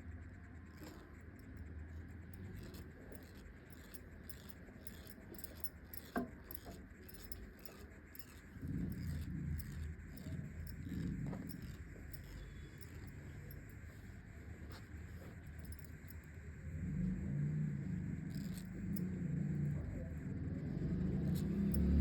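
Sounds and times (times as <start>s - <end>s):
thread ticking over skin: 0.4s - 20.0s.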